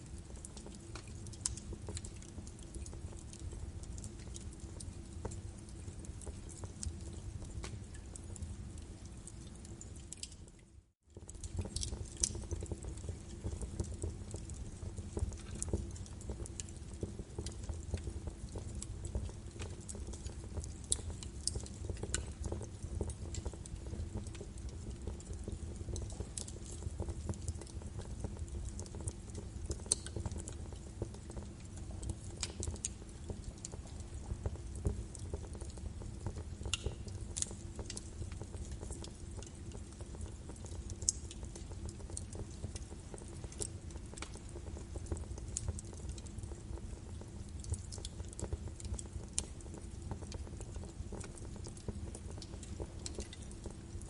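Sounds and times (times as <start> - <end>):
low rumble of burning: 0.0 - 54.0
wood fire crackling and popping: 0.0 - 54.0.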